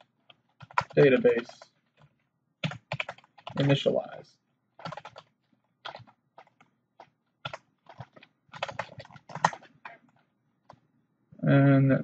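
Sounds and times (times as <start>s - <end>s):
computer keyboard keystrokes: 0.0s - 3.9s, 4.8s - 10.8s.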